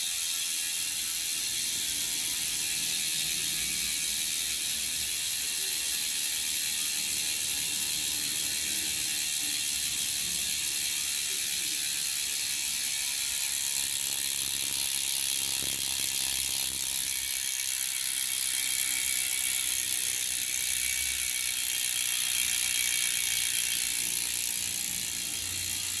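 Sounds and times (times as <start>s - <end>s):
bicycle freehub ratchet clicking: 0.0s - 26.0s.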